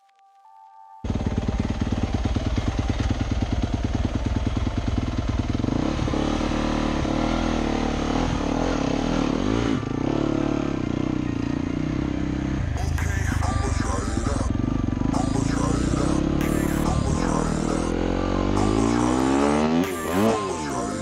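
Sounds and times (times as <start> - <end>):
dirt bike engine running: 1.0 - 21.0.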